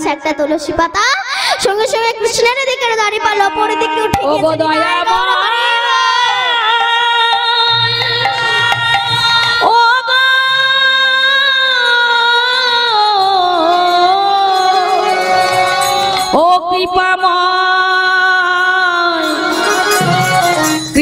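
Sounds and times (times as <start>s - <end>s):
girl singing devotional melody: 0.0s - 20.2s.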